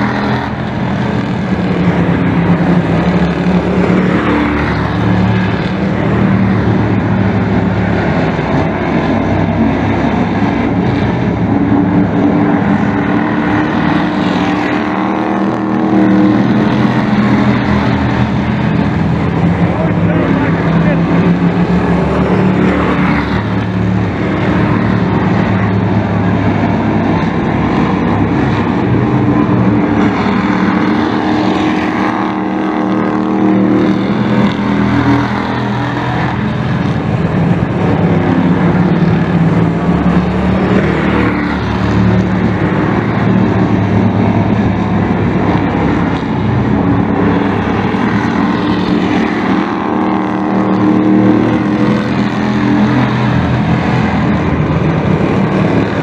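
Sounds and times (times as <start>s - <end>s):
race truck engines passing: 0.0s - 56.0s.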